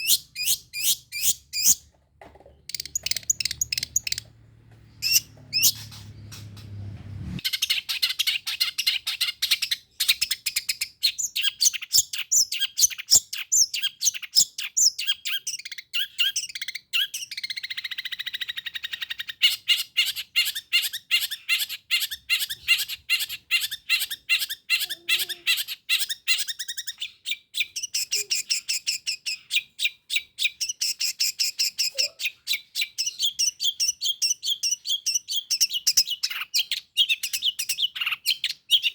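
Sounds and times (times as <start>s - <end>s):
bird singing high chirps: 0.0s - 1.8s, 2.6s - 4.3s, 4.9s - 6.6s, 7.4s - 38.9s.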